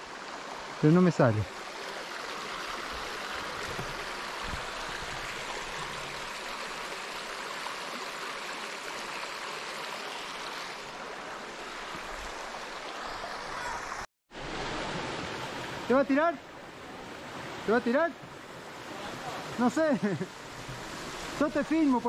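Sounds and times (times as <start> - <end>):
creek water running over rocks: 0.0 - 22.0.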